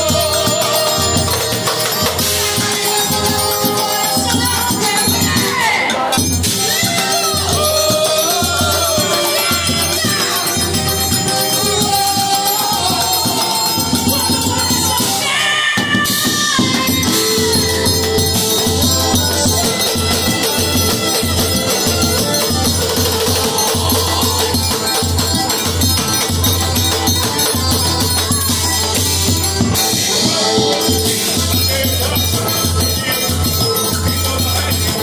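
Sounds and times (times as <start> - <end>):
accordion melody: 0.0 - 35.0
high triangle rhythm: 0.0 - 35.0.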